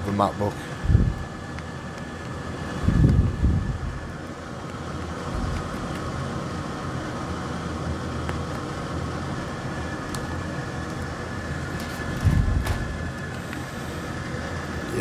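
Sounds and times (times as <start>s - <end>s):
mechanical hum with whine: 0.0s - 15.0s.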